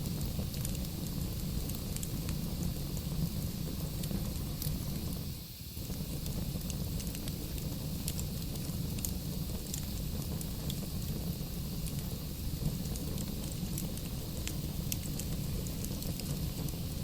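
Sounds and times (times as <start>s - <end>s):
logs crackling and popping: 0.0s - 5.2s, 5.8s - 17.0s
fire rumbling: 0.0s - 17.0s.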